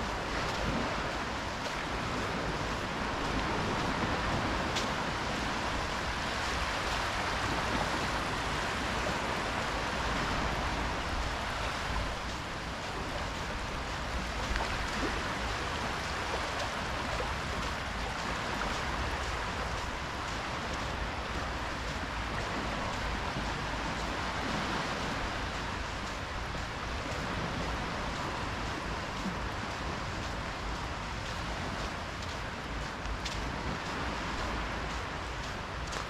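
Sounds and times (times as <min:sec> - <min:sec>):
waves lapping on sandy beach: 0:00.0 - 0:36.0.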